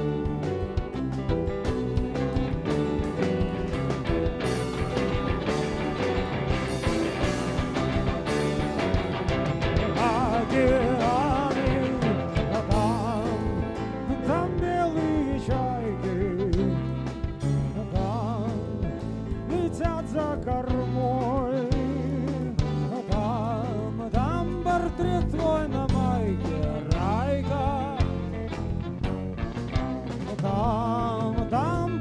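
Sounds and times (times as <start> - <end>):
rock band playing: 0.0 - 32.0.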